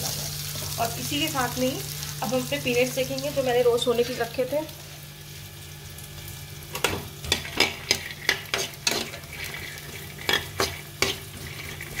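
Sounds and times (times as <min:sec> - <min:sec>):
faint sizzle: 0:00.0 - 0:12.0.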